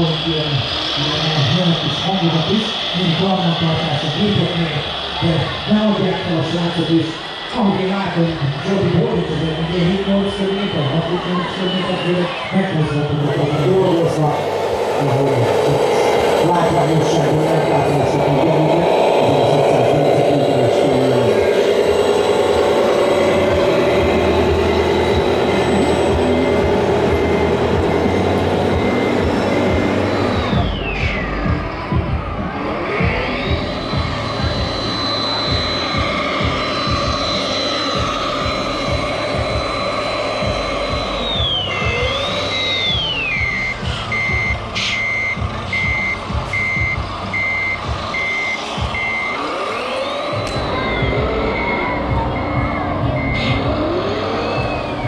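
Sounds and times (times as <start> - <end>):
model truck engine drone: 0.0 - 55.0
reversing alarm beeping: 0.0 - 55.0
thin high whine: 0.0 - 55.0.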